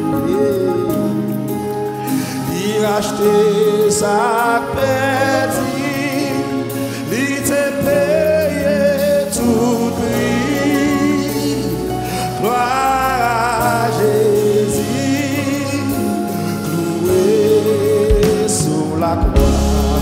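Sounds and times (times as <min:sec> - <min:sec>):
band accompaniment: 0:00.0 - 0:20.0
man leading singing: 0:00.0 - 0:20.0
backing singers: 0:02.4 - 0:20.0.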